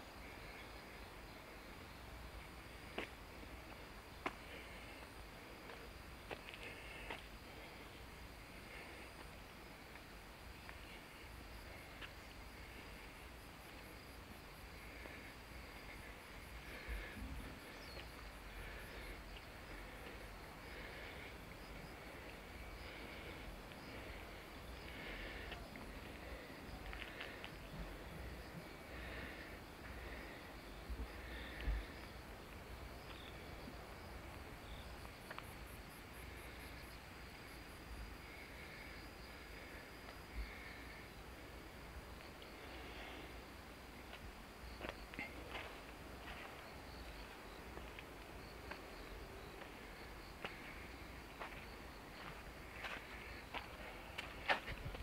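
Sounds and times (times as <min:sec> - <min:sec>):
faint outdoor hush: 0:00.0 - 0:55.0
insects chirping trill: 0:00.0 - 0:55.0.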